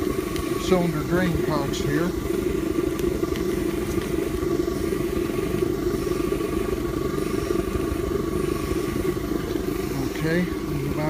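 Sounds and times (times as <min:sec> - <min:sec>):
faint constant tones: 0:00.0 - 0:11.0
propane burner rushing hum: 0:00.0 - 0:11.0.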